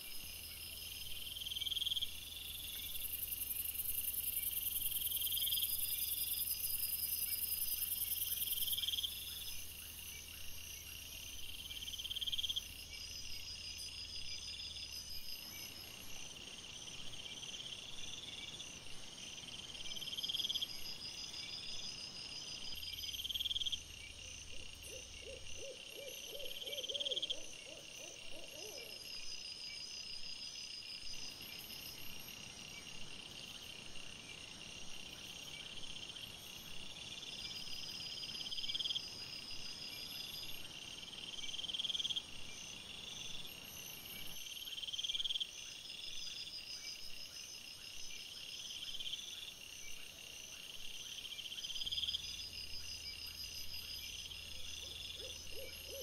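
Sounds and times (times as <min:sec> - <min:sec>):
crickets trilling: 0:00.0 - 0:56.0
low rapid insect pulses: 0:00.0 - 0:56.0.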